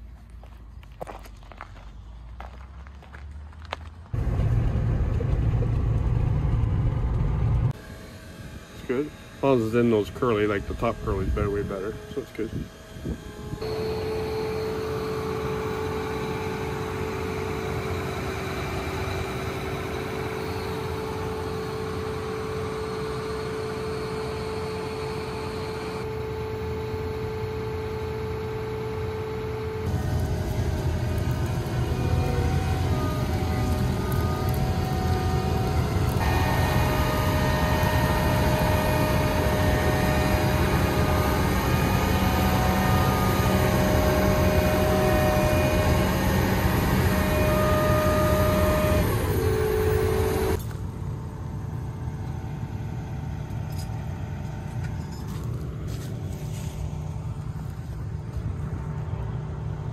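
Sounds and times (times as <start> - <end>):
harvest machinery engine rumbling: 0.0 - 59.9
whining tones: 4.1 - 59.9.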